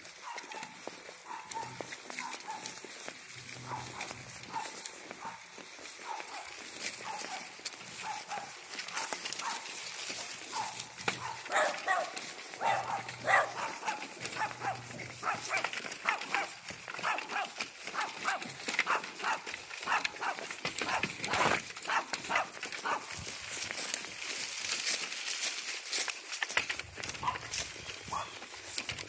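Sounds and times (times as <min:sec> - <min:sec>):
footsteps crunching through dry leaves: 0:00.0 - 0:29.0.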